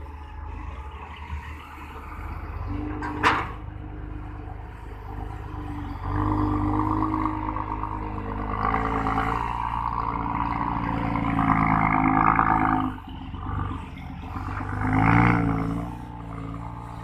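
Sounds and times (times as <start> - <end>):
heavy diesel engine under load: 0.0 - 17.0.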